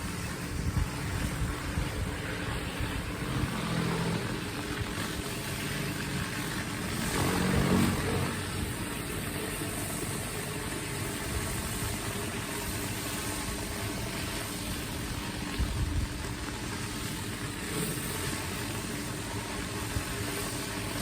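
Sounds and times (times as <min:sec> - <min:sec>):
pressure washer running: 0:00.0 - 0:21.0.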